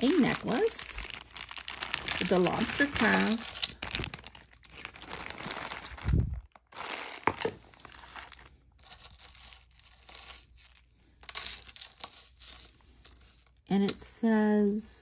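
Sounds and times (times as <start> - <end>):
plastic bag crinkling: 0.0 - 13.7.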